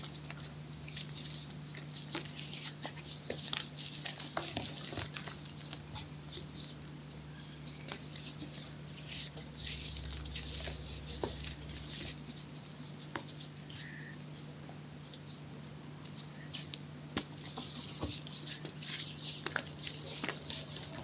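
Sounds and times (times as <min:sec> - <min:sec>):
chalk crunching: 0:00.0 - 0:15.5, 0:16.1 - 0:21.0.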